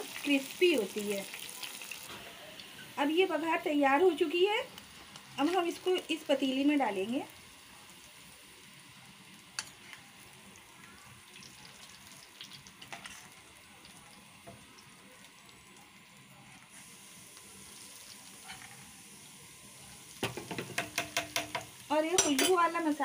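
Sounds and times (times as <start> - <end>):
faint oil sizzling: 0.0 - 23.0.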